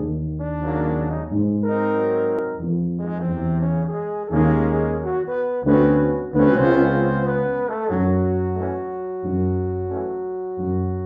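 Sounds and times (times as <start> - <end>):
french horns playing chords: 0.0 - 11.0
low tuba notes: 0.0 - 11.0.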